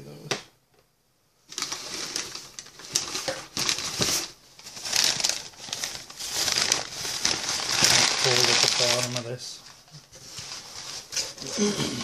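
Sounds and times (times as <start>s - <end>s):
paper rustling and crinkling: 1.5s - 11.6s.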